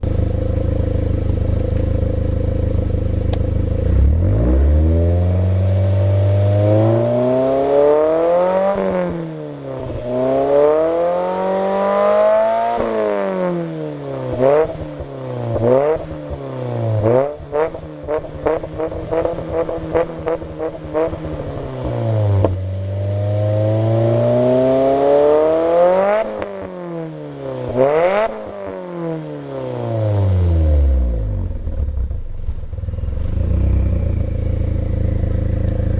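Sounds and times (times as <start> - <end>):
car engine idling and revving: 0.0 - 35.9.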